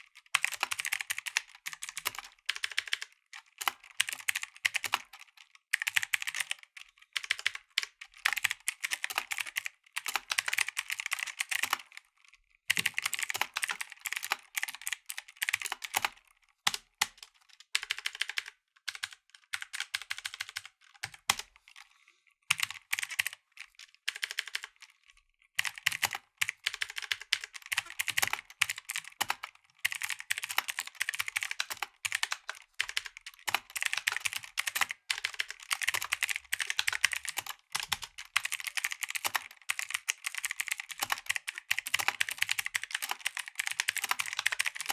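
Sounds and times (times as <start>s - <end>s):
clicky keyboard typing: 0.0s - 21.9s, 22.5s - 44.9s.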